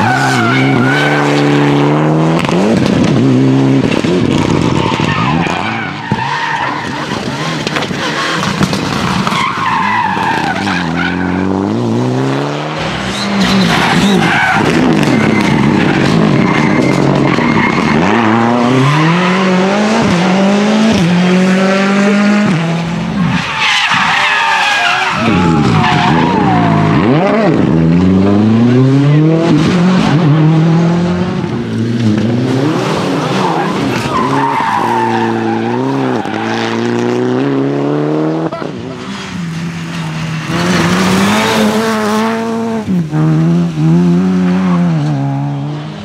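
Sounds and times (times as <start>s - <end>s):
rally car engines revving: 0.0s - 46.0s
tyres skidding on loose road: 0.0s - 46.0s.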